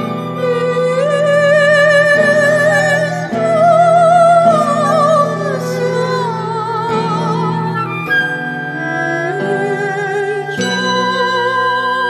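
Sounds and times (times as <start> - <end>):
high melody with wide vibrato: 0.0 - 12.0
soft plucked accents: 0.0 - 12.0.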